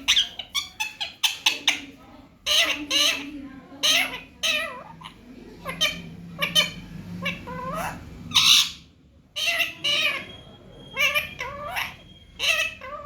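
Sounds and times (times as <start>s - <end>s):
parrot squawking and chirping: 0.0s - 13.0s.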